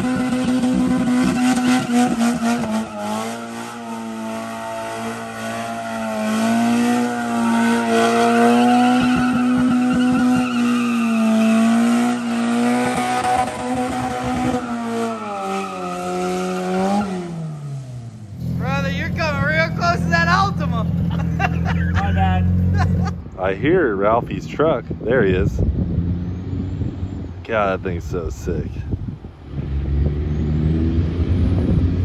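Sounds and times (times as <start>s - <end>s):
car engine revving high: 0.0s - 23.2s, 29.4s - 32.0s.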